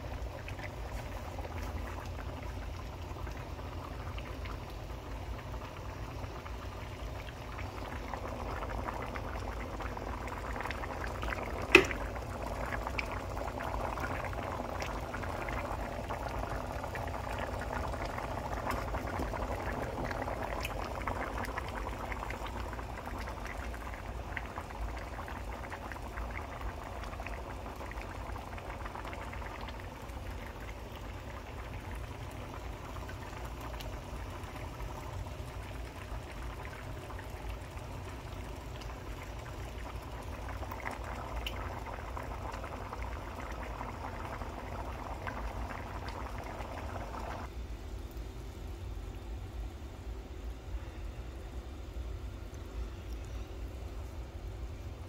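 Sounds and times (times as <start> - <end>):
pots bubbling on stovetop: 0.0 - 55.0.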